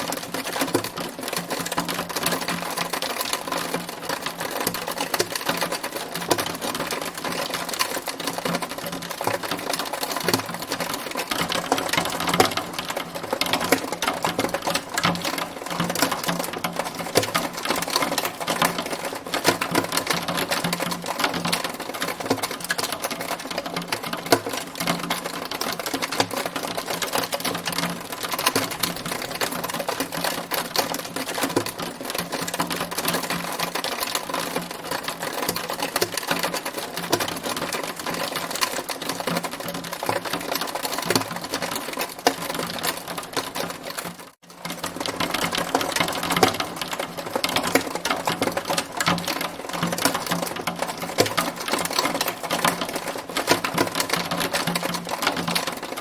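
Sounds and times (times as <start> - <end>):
hailstones striking a hard surface: 0.0 - 56.0.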